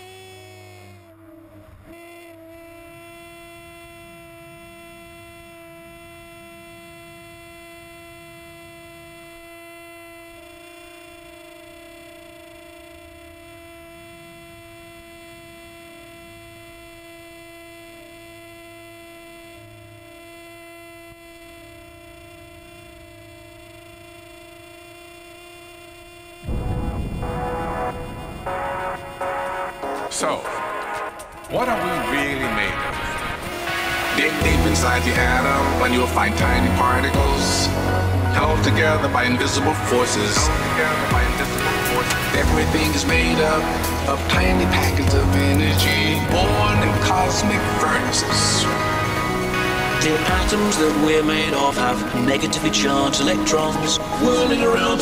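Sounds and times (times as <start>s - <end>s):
airflow rumble: 0.0s - 11.3s, 11.9s - 24.4s, 25.9s - 55.0s
plane engine and propeller droning: 0.0s - 55.0s.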